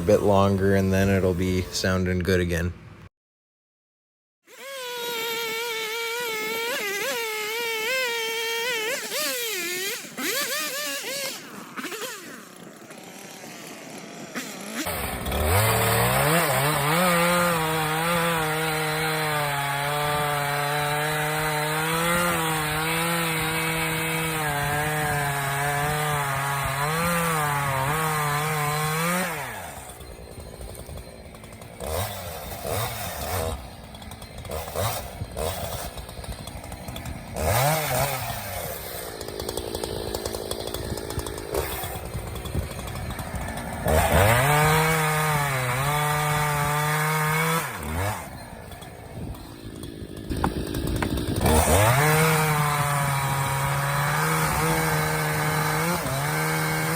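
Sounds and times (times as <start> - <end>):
chainsaw revving and cutting wood: 0.0 - 2.7, 4.4 - 56.9.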